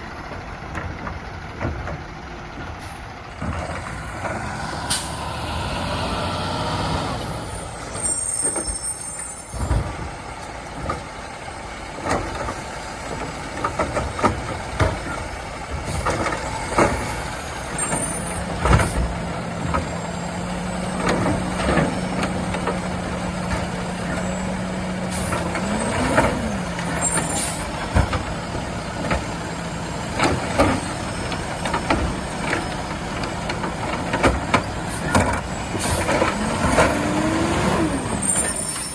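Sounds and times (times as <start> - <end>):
diesel engine running: 0.0 - 38.9
carts knocking and clattering: 0.2 - 4.6, 9.4 - 38.9.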